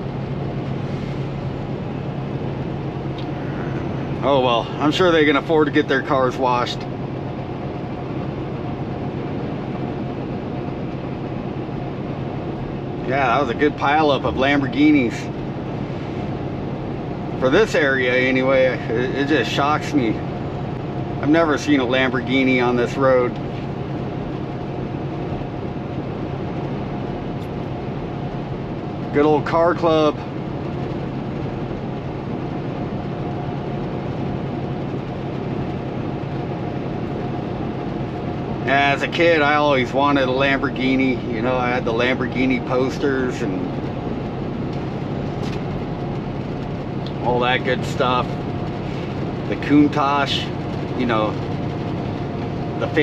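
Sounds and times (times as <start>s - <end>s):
diesel engine humming: 0.0s - 53.0s
road and wind noise: 0.0s - 53.0s
thin steady whine: 0.0s - 53.0s.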